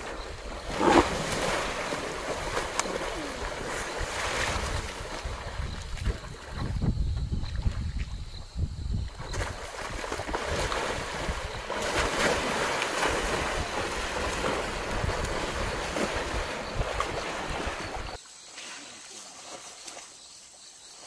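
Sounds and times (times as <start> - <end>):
water splashing and churning: 0.0 - 6.9, 9.1 - 20.2
wind rumbling on microphone: 0.0 - 18.2.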